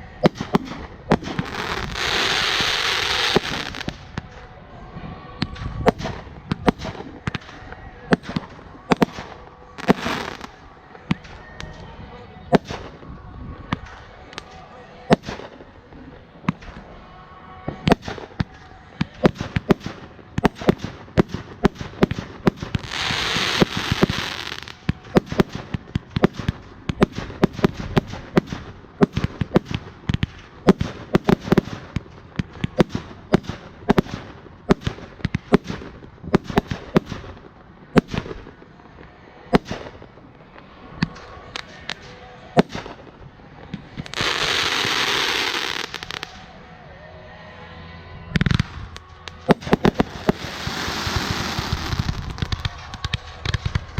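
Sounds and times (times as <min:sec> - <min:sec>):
firecrackers banging and popping: 0:00.0 - 0:04.6, 0:05.4 - 0:11.9, 0:17.7 - 0:38.9, 0:39.5 - 0:46.5, 0:48.3 - 0:53.9.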